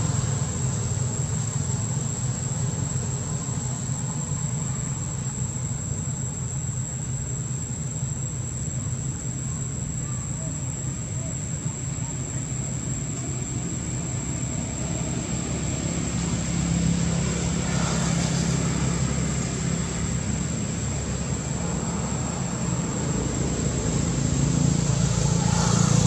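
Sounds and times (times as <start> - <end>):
distant motor engine droning: 0.0 - 26.0.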